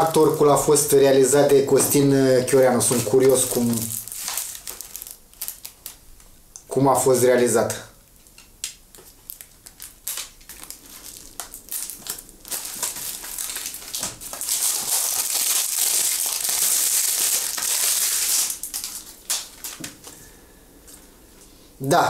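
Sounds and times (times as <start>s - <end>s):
packaging crinkling: 0.0s - 1.0s, 1.7s - 6.4s, 8.1s - 20.2s.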